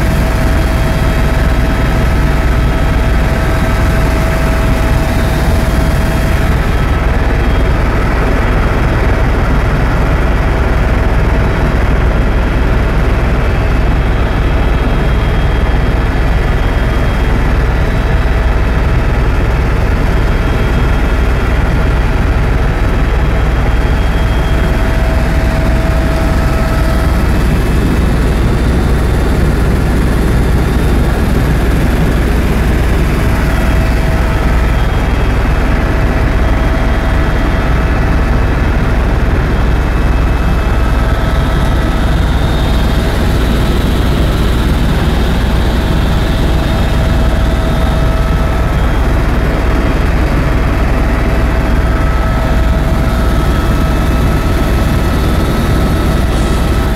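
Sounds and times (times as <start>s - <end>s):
faint steady whine: 0.0s - 56.9s
helicopter rotor and engine rumble: 0.0s - 56.9s.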